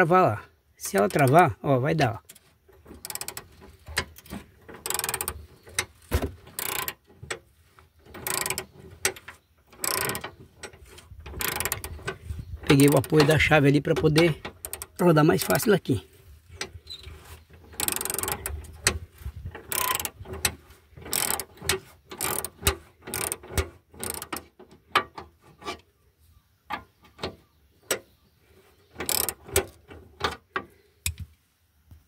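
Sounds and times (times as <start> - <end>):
wrench clicking and scraping: 0.8 - 15.8, 16.4 - 25.9, 28.8 - 31.3.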